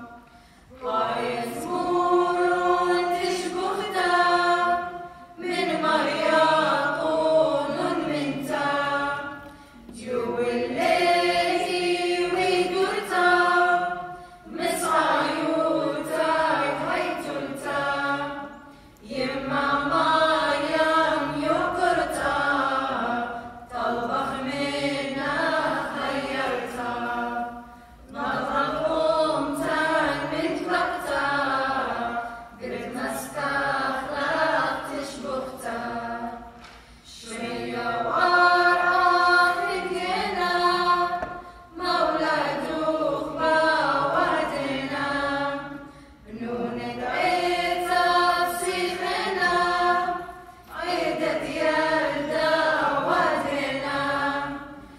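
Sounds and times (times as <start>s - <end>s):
choir singing a hymn a cappella: 0.0s - 54.9s.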